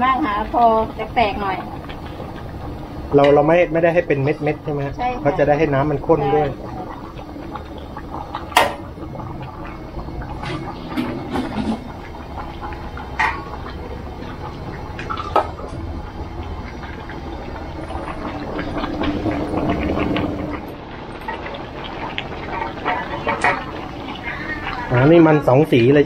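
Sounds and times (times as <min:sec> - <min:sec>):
liquid sloshing in pot: 0:00.3 - 0:25.5.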